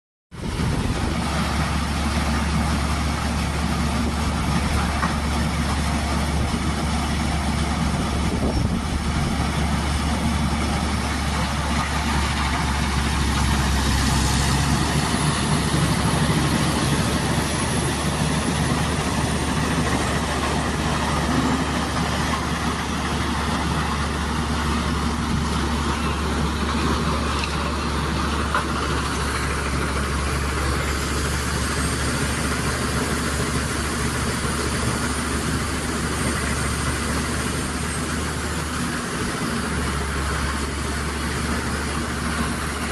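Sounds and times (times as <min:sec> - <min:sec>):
wood chipper engine drone: 0:00.4 - 0:42.9.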